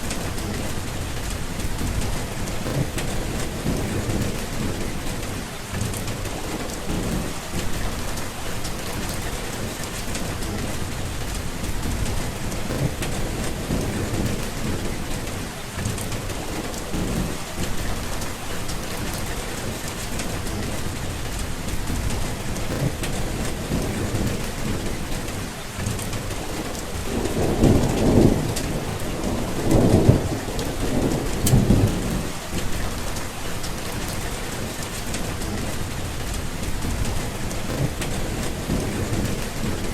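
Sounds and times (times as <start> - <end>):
low rolling thunder: 0.0 - 39.9
steady rain falling: 0.0 - 39.9.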